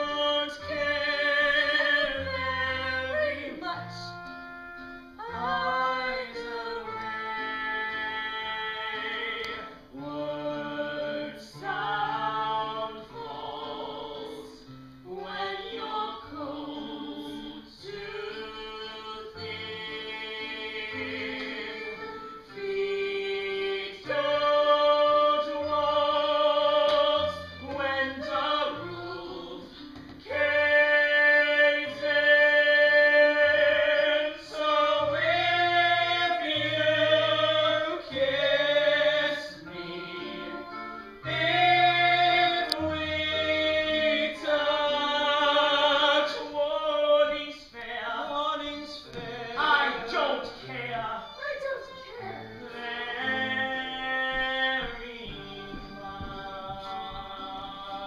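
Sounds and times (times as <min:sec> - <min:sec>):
instrumental accompaniment: 0:00.0 - 0:58.0
person singing a slow song: 0:00.0 - 0:58.0.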